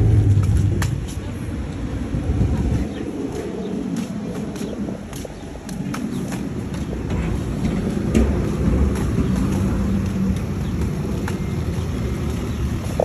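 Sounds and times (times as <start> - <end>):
city street traffic rumble: 0.0 - 13.0
low engine hum: 0.0 - 13.0
wind on microphone: 0.0 - 13.0.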